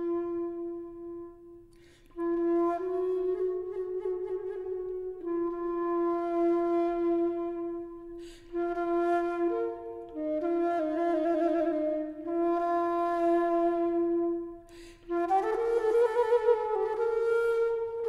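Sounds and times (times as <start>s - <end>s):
flute playing slow melody: 0.0s - 18.0s.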